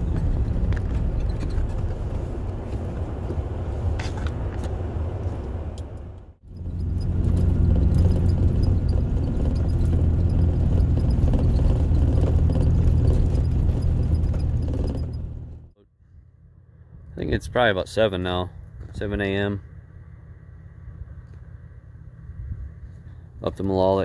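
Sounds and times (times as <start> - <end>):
vehicle engine and tyre drone: 0.0 - 24.0.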